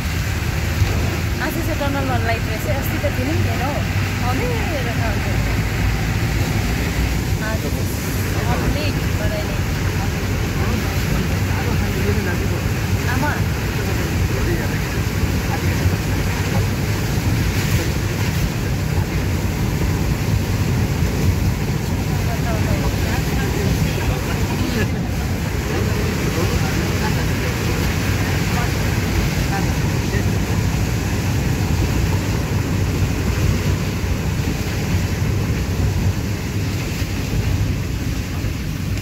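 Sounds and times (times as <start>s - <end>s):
tyres on wet road: 0.0s - 39.0s
vehicle engine rumble: 0.0s - 39.0s.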